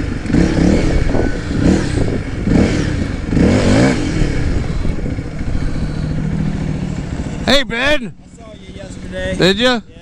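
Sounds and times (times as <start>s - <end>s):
motorcycle engine revving: 0.0s - 9.8s.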